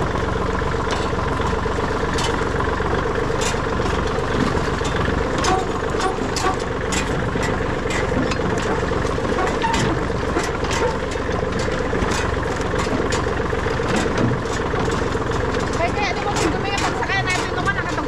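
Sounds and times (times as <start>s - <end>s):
tractor engine running: 0.0s - 18.0s
light clicks and rattles: 3.2s - 18.0s.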